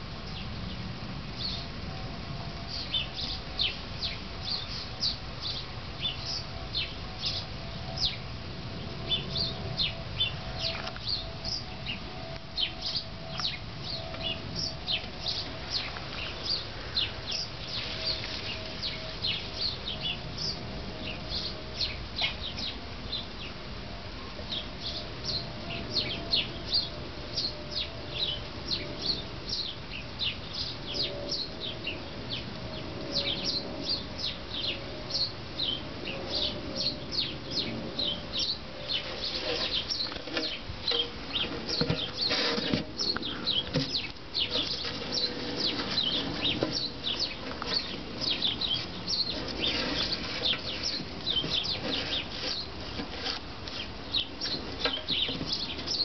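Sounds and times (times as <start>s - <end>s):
small birds chirping: 0.2s - 1.8s, 2.6s - 23.6s, 24.4s - 56.0s.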